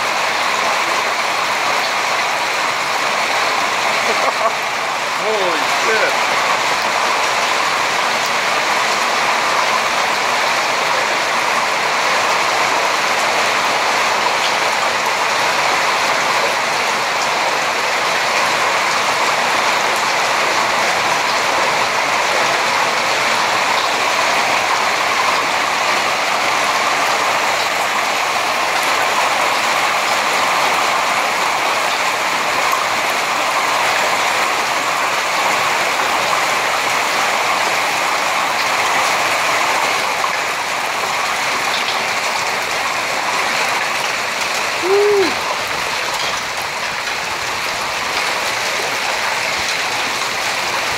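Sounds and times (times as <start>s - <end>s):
heavy hail falling: 0.0s - 50.9s.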